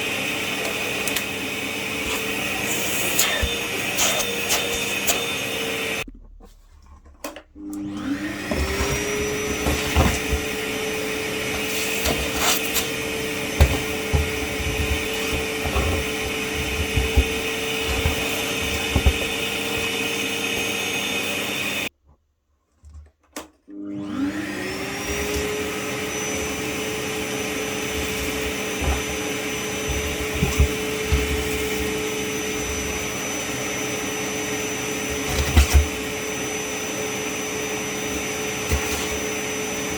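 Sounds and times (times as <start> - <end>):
vacuum cleaner motor whine: 0.0 - 6.1, 7.6 - 21.9, 23.7 - 39.9.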